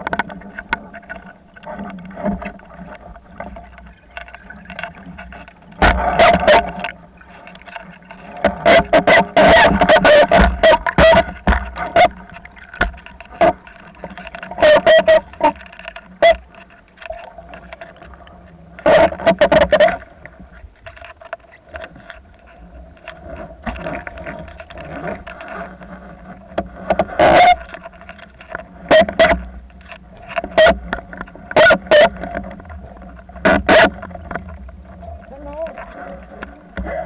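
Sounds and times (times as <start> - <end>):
steady low underwater hum: 0.0 - 37.0.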